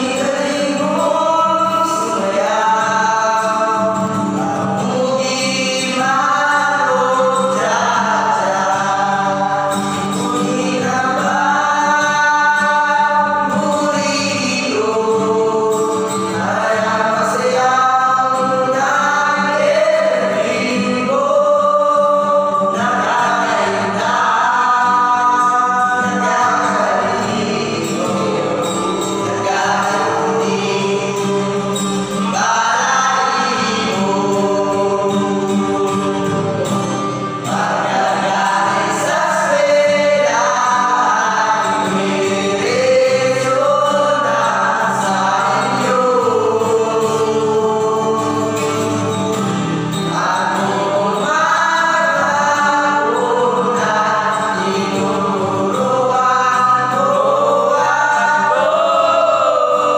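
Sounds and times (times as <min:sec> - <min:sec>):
acoustic guitar: 0:00.0 - 0:59.9
group of men singing: 0:00.0 - 0:59.9.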